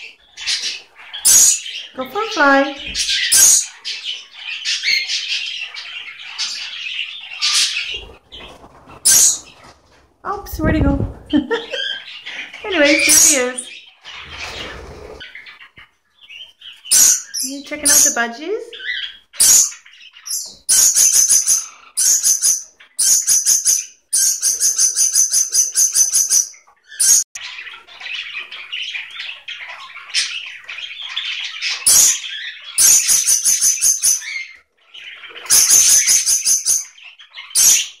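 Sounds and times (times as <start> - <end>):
parakeets chirping: 0.0 - 9.8, 10.6 - 38.0
parakeet warbling chatter: 0.3 - 8.1, 9.0 - 9.5, 11.7 - 15.6, 16.8 - 38.0.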